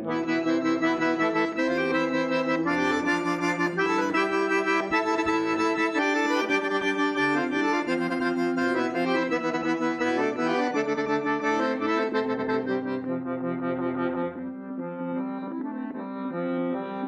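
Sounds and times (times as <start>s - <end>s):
accordion playing a melody: 0.0s - 17.0s.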